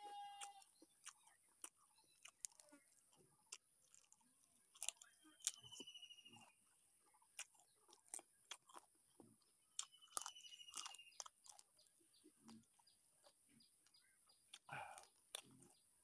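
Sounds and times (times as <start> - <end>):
wet chewing and smacking: 0.0 - 16.0.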